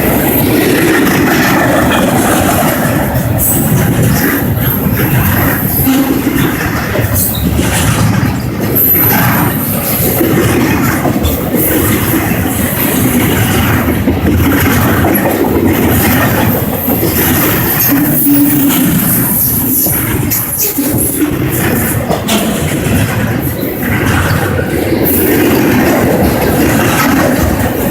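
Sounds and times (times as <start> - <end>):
train wheels clattering on rail: 0.0 - 27.9.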